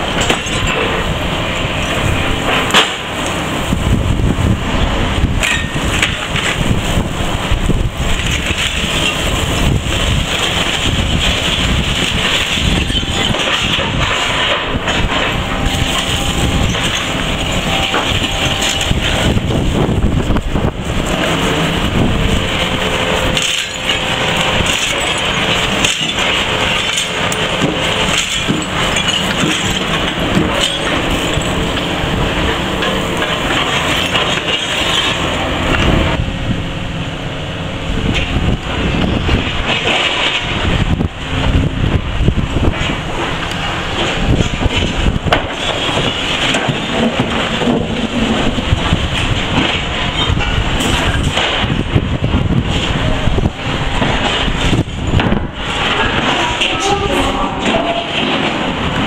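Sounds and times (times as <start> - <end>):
excavator engine under load: 0.0 - 59.0
debris crunching and clattering: 0.1 - 1.1, 5.4 - 7.0, 7.8 - 36.1, 38.1 - 57.0, 57.6 - 59.0.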